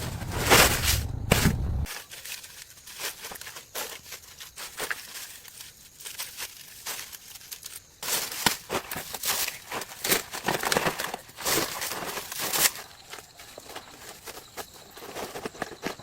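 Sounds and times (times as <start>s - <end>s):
rustling and crinkling handling noise: 0.0s - 16.0s.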